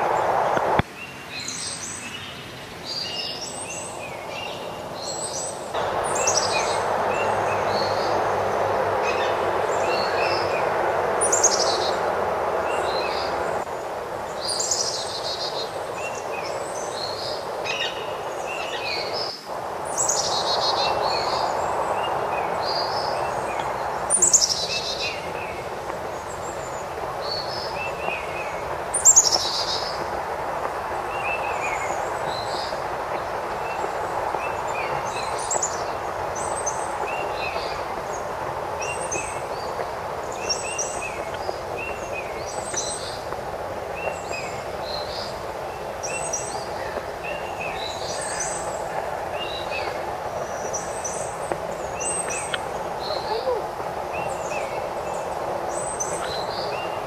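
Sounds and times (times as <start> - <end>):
songbirds singing and chirping: 0.0 - 57.0
steady rushing background noise: 0.0 - 57.0.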